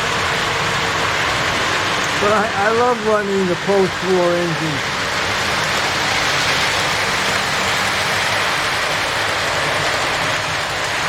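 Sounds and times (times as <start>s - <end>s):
model train wheels rumbling on rail: 0.0s - 11.0s.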